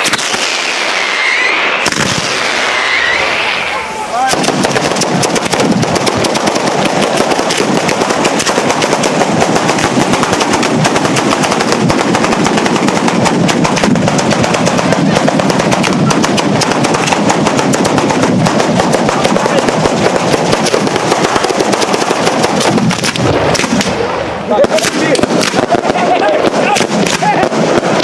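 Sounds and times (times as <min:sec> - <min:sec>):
rapid firecracker bangs: 0:00.0 - 0:28.0.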